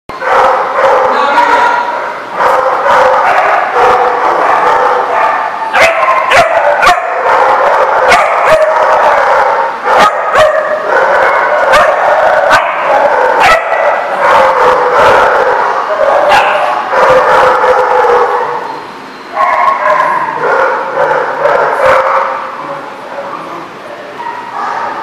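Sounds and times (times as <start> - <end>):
dogs barking and yipping: 0.1 - 23.4, 24.1 - 25.0.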